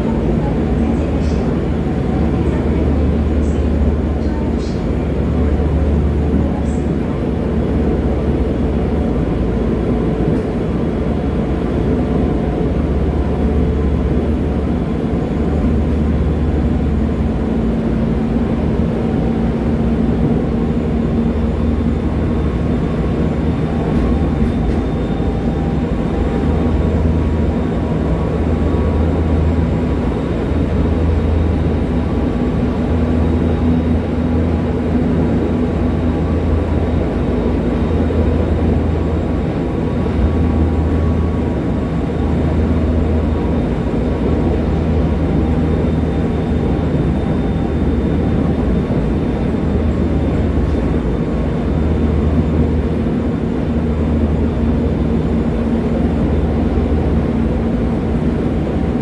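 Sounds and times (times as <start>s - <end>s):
low droning hum: 0.0s - 59.0s
train rumbling on rails: 0.0s - 59.0s.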